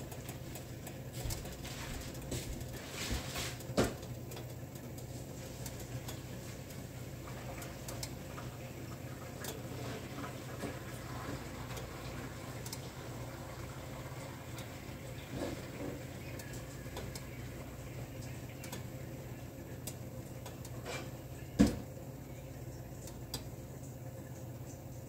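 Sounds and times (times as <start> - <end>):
faint ticks and patter: 0.0 - 20.8
steady low hum: 0.0 - 25.0.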